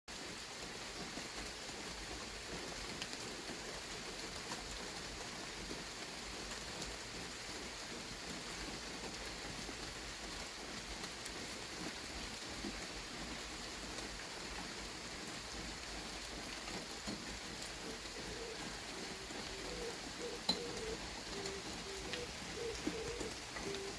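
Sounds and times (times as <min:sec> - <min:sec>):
steady rain falling: 0:00.1 - 0:23.9.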